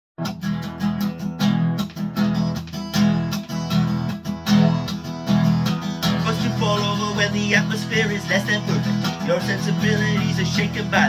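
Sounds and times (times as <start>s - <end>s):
acoustic guitar strumming: 0.2s - 11.0s.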